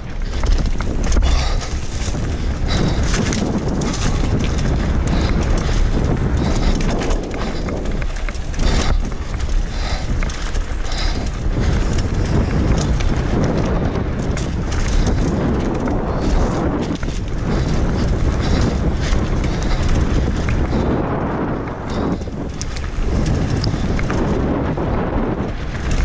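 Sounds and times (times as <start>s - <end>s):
bike knocking and rattling: 0.0s - 26.0s
bike tyres crunching over ground: 0.0s - 26.0s
wind buffeting microphone: 0.0s - 26.0s.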